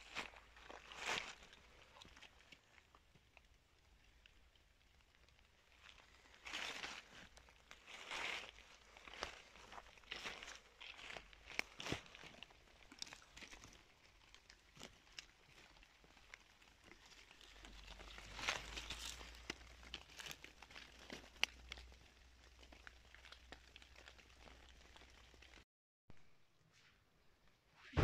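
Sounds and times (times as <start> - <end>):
rustling of wet leaves: 0.0 - 25.6.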